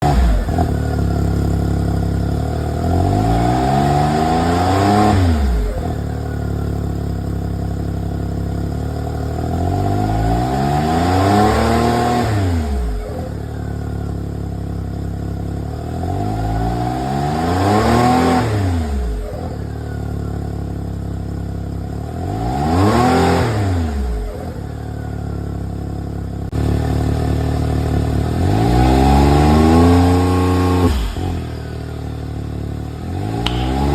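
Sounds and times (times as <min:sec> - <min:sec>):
engine idling and revving: 0:00.0 - 0:33.9.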